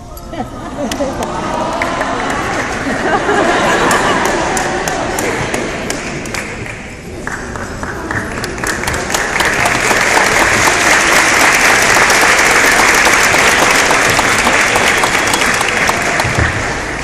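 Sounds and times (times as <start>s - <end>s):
audience applauding: 0.8s - 17.0s.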